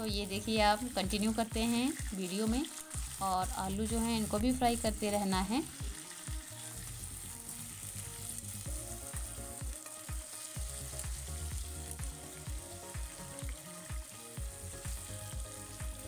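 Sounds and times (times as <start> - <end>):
potato slices sizzling in oil: 0.0 - 16.0.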